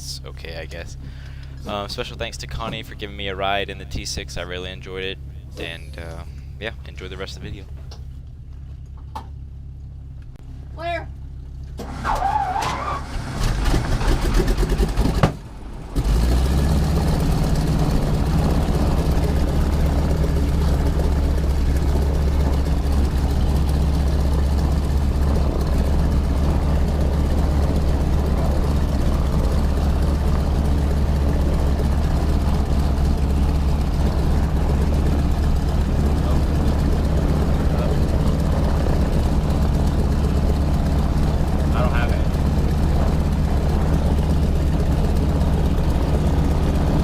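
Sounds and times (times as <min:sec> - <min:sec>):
aircraft engine idling: 0:00.0 - 0:10.3, 0:13.6 - 0:47.0
radial aircraft engine starting: 0:00.8 - 0:08.1, 0:11.7 - 0:47.0.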